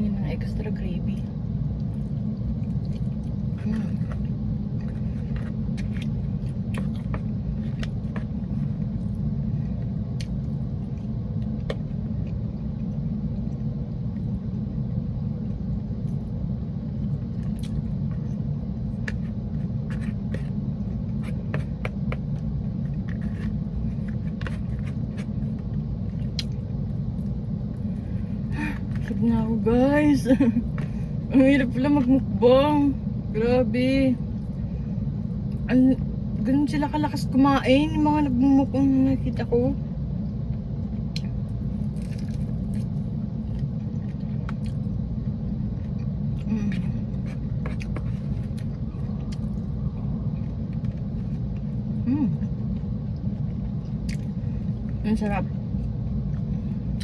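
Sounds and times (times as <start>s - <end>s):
low rumble inside a car: 0.0s - 57.0s.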